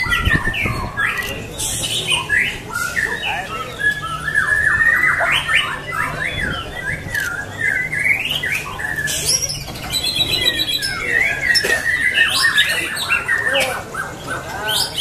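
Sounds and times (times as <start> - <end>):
bird singing fast notes: 0.0 - 13.6.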